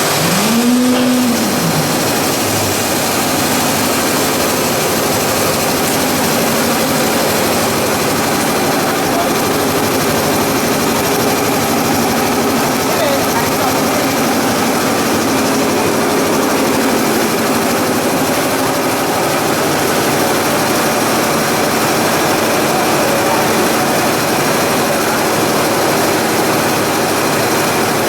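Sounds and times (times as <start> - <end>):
loud machinery noise: 0.0 - 28.0.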